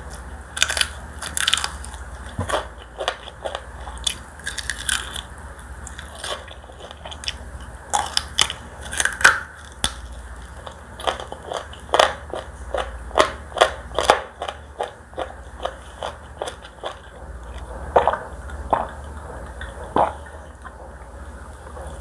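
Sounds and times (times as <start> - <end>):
crunchy chewing of fried chicken: 0.0 - 22.0.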